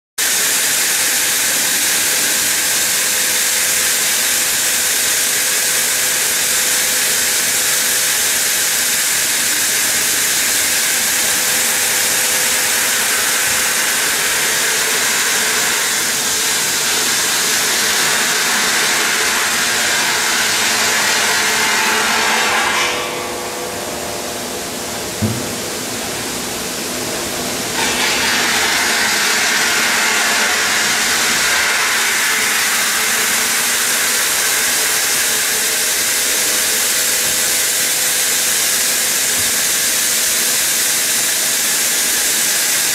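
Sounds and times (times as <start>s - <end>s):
faint machine hum: 0.5s - 42.0s
saw blade grinding stone: 0.9s - 23.2s, 27.8s - 40.1s.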